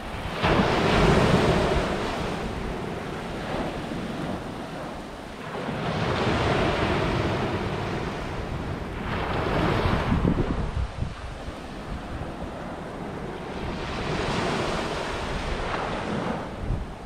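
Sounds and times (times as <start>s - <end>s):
sea waves breaking on beach: 0.0s - 17.0s.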